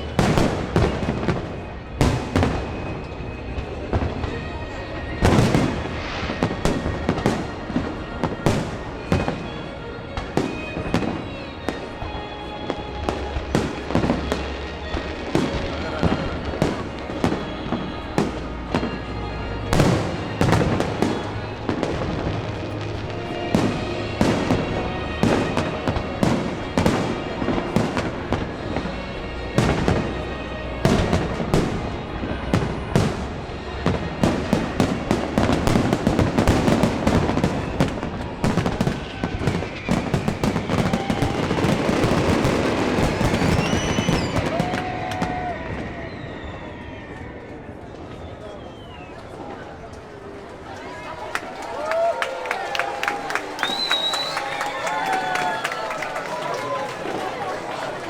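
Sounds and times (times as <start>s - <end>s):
fireworks banging and crackling: 0.0s - 58.0s.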